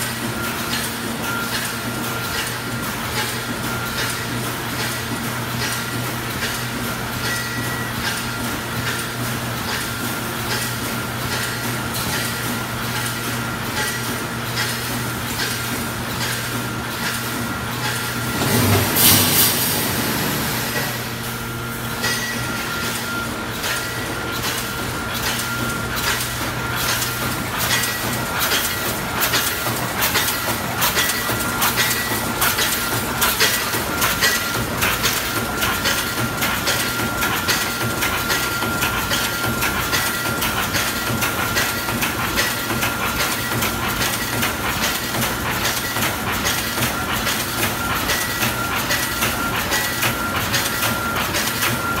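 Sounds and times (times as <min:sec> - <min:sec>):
welding machine clatter: 0:00.0 - 0:52.0
high machine whine: 0:05.8 - 0:52.0.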